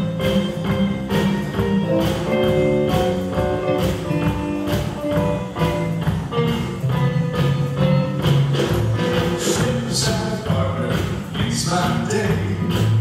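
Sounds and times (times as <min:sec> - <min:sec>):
bass guitar: 0:00.0 - 0:13.0
drum kit steady beat: 0:00.0 - 0:13.0
electric guitar: 0:00.0 - 0:13.0.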